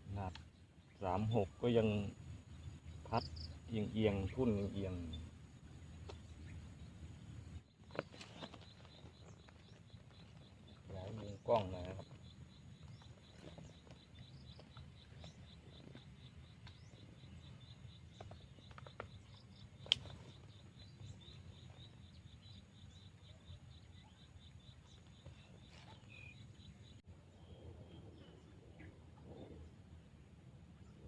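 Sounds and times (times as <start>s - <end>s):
insect chirping: 0.0s - 27.6s.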